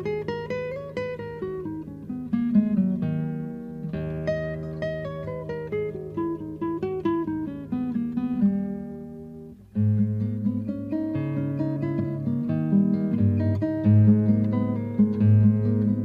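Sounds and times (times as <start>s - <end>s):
acoustic guitar plucked notes: 0.0s - 16.0s.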